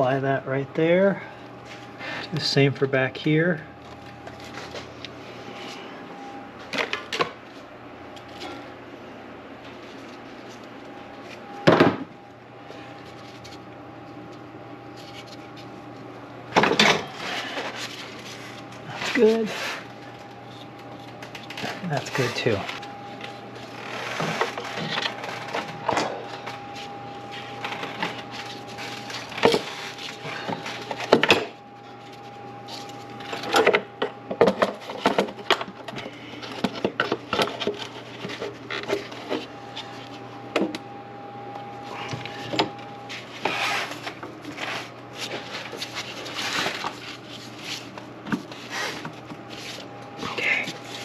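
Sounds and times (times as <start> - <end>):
faint steady whine: 0.0 - 51.0.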